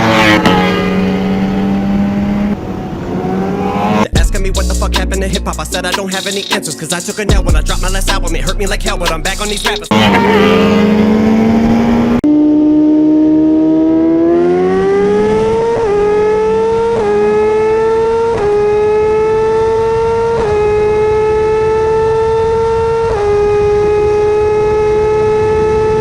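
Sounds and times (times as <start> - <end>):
motorcycle engine accelerating: 0.0 - 5.0, 9.6 - 26.0.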